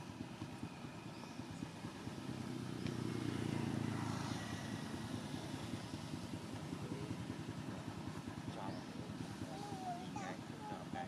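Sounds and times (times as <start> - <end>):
passing vehicle engine hum: 0.0 - 11.0.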